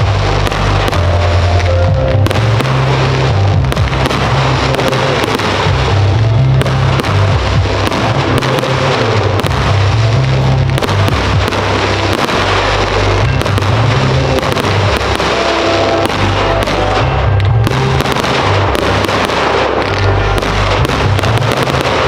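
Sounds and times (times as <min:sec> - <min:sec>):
fireworks bangs and crackles: 0:00.0 - 0:22.0
music with heavy bass: 0:00.0 - 0:22.0.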